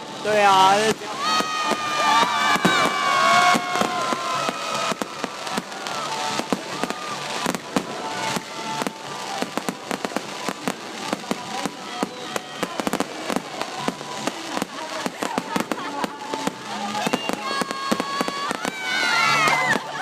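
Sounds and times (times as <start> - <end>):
fireworks bangs and crackles: 0.0 - 20.0
pitched firework tones: 0.0 - 20.0.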